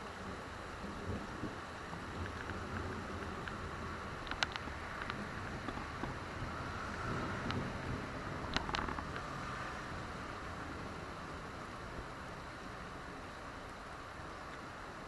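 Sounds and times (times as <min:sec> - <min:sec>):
raindrops ticking on something: 0:00.0 - 0:15.0
steady rain hissing: 0:00.0 - 0:15.0.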